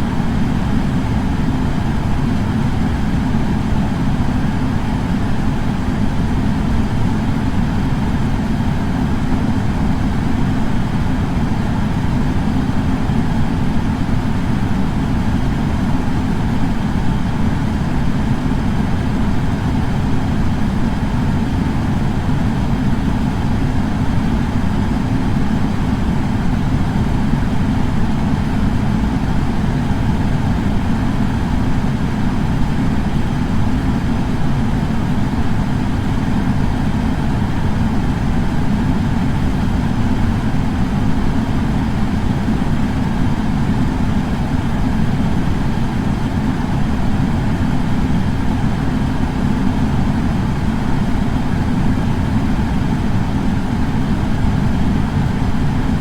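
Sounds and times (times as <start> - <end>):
air purifier fan running: 0.0 - 56.0.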